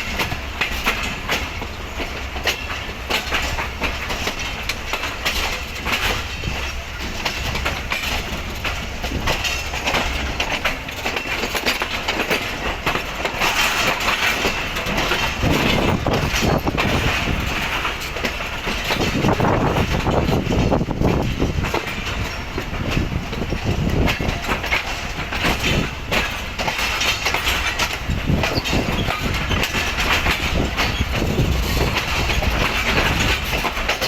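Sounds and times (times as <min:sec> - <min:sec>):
train rumble: 0:00.0 - 0:34.0
train wheels clicking over rail joints: 0:00.0 - 0:34.0.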